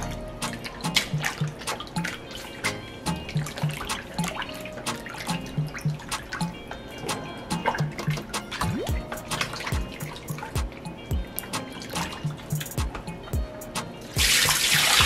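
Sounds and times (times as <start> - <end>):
tap water splashing and dripping: 0.0 - 13.1, 14.1 - 15.0
background music: 0.0 - 15.0.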